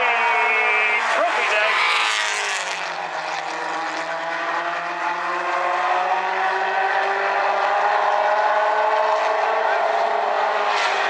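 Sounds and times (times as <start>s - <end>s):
race car engines accelerating: 0.0s - 11.0s.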